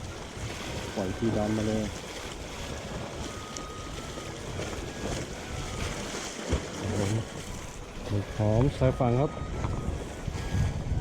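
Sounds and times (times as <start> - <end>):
waves washing along shore: 0.0 - 11.0
wind buffeting microphone: 0.0 - 11.0.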